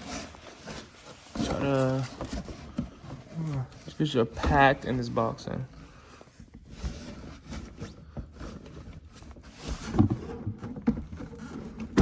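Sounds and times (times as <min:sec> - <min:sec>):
packaging rustling and scraping: 0:00.0 - 0:12.0.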